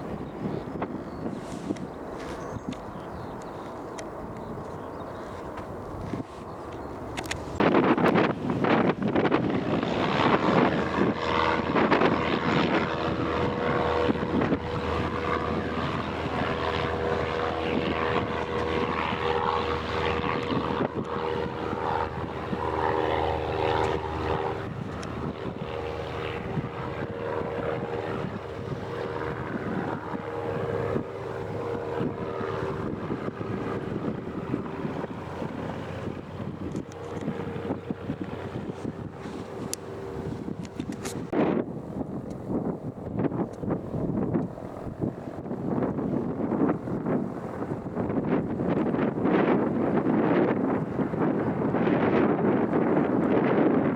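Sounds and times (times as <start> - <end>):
aircraft engine hum: 0.0 - 53.9
wind rumbling on microphone: 0.0 - 53.9.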